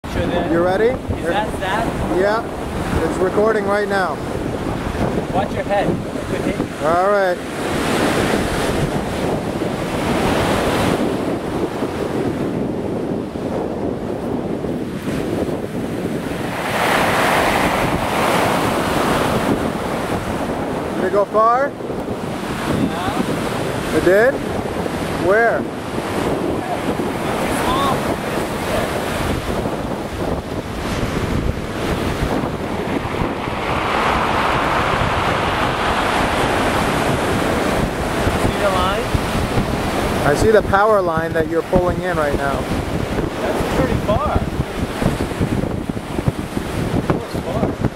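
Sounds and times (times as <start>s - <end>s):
surf breaking on beach: 0.0s - 47.9s
wind noise on microphone: 0.0s - 47.9s.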